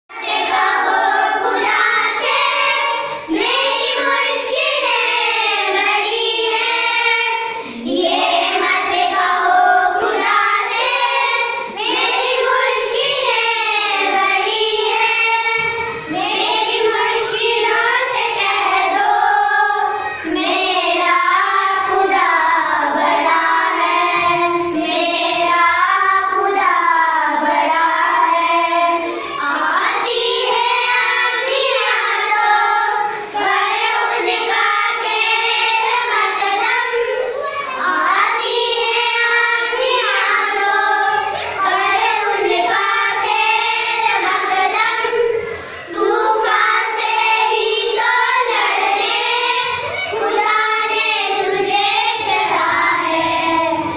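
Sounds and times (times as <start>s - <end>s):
children singing together: 0.1s - 53.9s.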